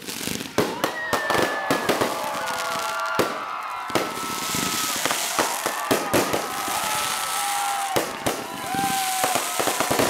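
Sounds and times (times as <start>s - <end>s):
fireworks bangs: 0.0s - 10.0s
fireworks whistles: 0.0s - 10.0s.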